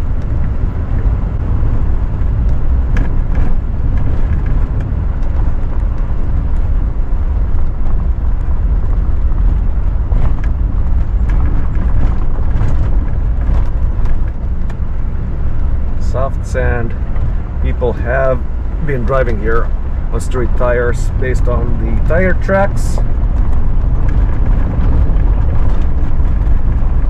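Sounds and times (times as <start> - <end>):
knocks and rattles over bumps: 0.0 - 27.0
vehicle rumbling on dirt road: 0.0 - 27.0.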